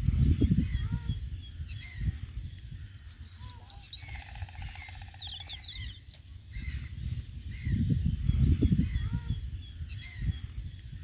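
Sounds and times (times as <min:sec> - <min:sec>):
small birds chirping and trilling: 0:00.0 - 0:11.0
wind rumble on microphone: 0:00.0 - 0:11.0.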